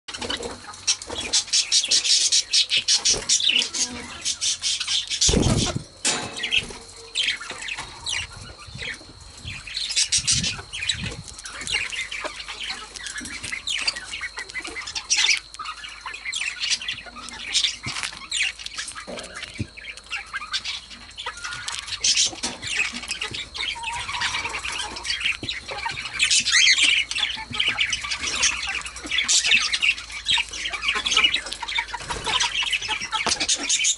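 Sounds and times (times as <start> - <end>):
budgerigars chirping: 0.1 - 33.9.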